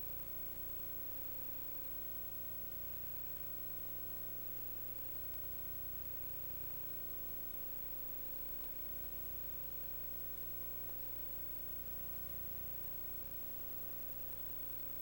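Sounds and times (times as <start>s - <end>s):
faint steady tone: 0.0s - 15.0s
low electrical hum: 0.0s - 15.0s.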